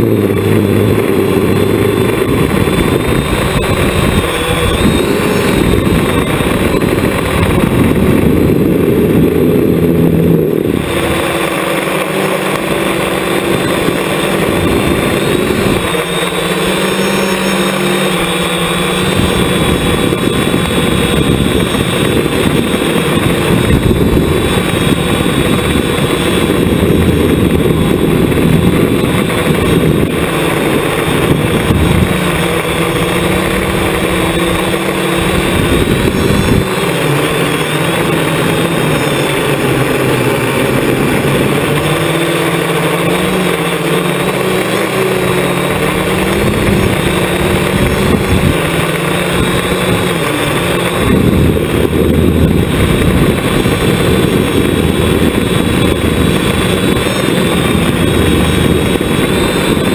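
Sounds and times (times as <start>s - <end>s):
drone motors buzzing whine: 0.0s - 59.9s.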